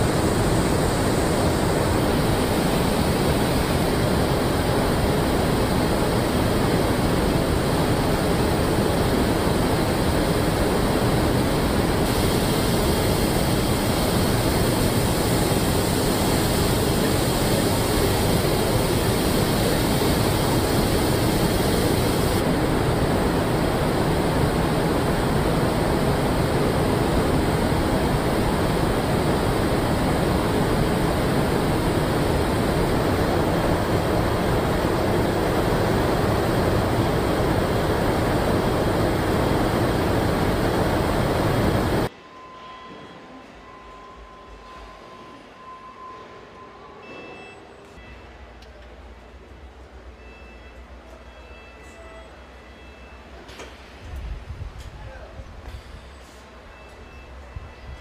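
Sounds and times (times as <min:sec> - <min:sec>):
factory ambience rushing noise: 0:00.0 - 0:58.0.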